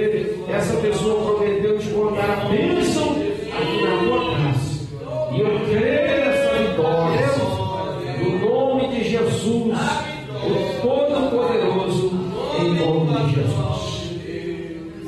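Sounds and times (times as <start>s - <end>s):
congregation singing: 0.0s - 15.0s.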